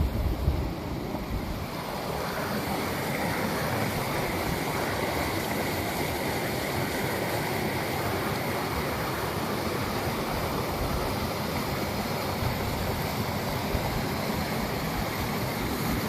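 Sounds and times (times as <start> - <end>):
waterfall rushing: 0.3 - 16.0.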